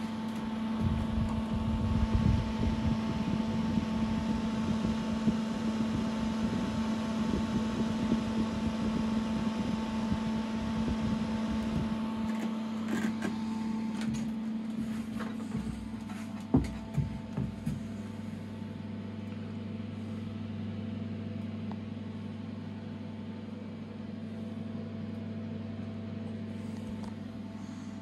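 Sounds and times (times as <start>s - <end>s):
cooling fan humming and whirring: 0.0s - 28.0s.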